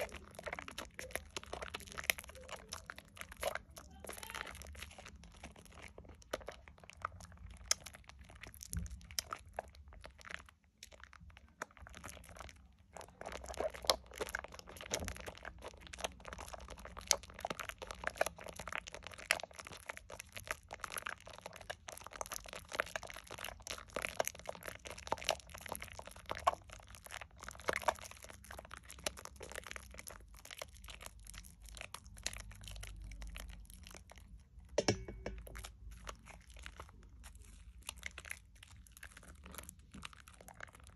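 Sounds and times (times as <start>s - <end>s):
soap lather squishing and crackling: 0.0s - 40.9s.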